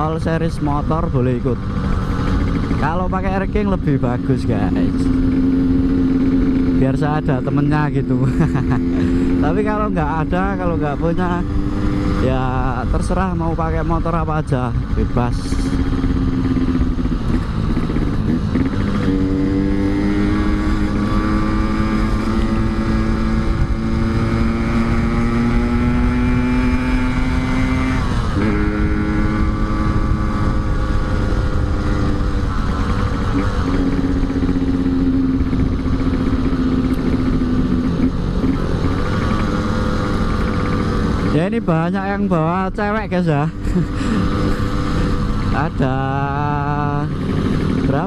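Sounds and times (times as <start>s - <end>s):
low wind rumble: 0.0s - 48.0s
two-stroke motorcycle engine running: 0.0s - 48.0s.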